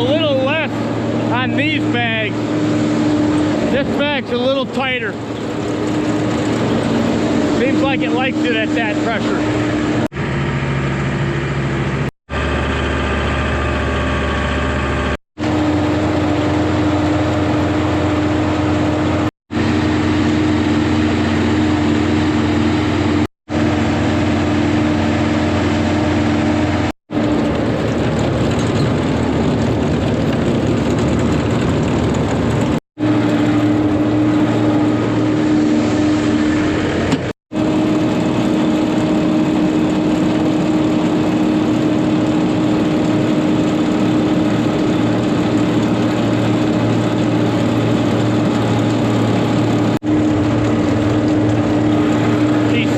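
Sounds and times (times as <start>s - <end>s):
tractor and bagger running: 0.0s - 52.9s.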